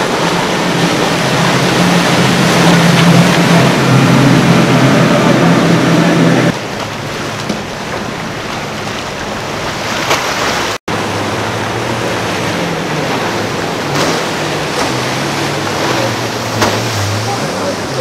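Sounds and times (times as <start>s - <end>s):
boat engines droning: 0.0s - 18.0s
rushing wake and waves: 0.0s - 18.0s.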